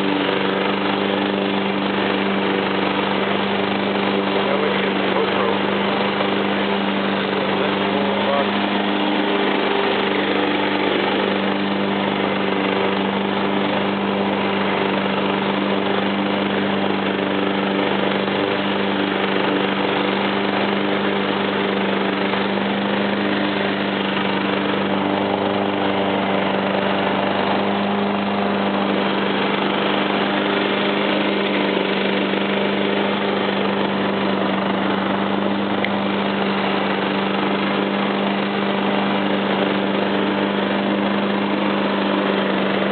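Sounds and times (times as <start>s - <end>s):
lawnmower engine running: 0.0s - 42.9s.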